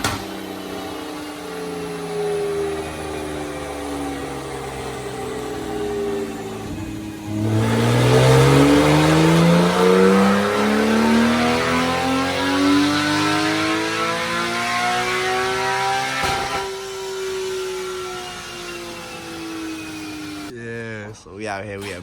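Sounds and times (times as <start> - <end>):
car engine accelerating: 0.0 - 20.6.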